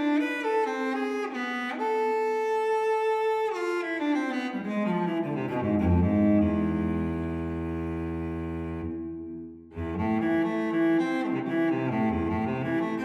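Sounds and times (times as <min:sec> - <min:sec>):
bowed strings slow melody: 0:00.0 - 0:13.0.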